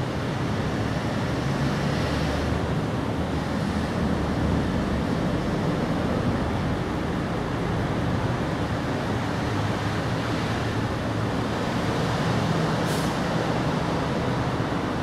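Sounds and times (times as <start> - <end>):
rumbling background noise: 0.0 - 15.0.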